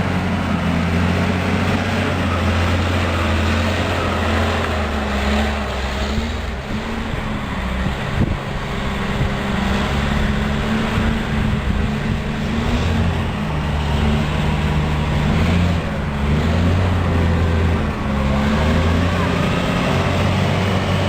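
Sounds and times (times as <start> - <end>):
road noise rushing: 0.0 - 21.0
vehicle engine hum: 0.0 - 21.0.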